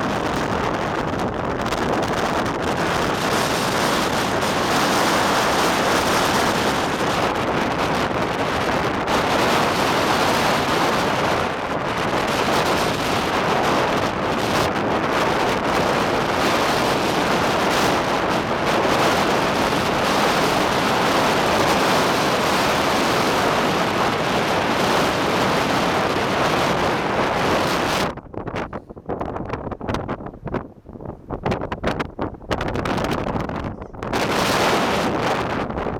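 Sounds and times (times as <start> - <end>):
strong wind on microphone: 0.0 - 35.9.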